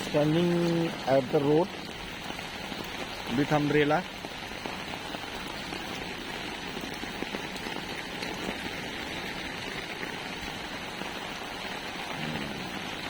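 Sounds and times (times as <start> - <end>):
heavy rain on road: 0.0 - 13.0
rain on umbrella: 0.0 - 13.0.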